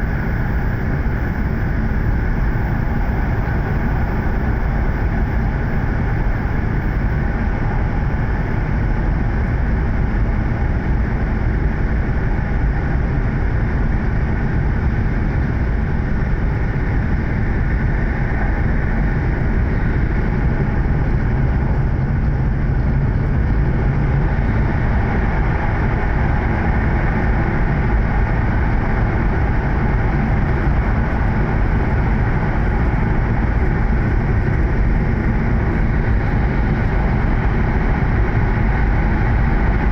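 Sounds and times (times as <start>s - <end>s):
train rumble inside passenger car: 0.0s - 39.9s.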